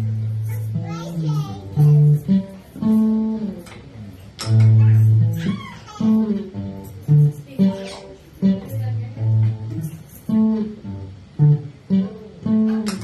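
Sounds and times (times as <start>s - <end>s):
acoustic guitar picking notes: 0.0s - 13.0s.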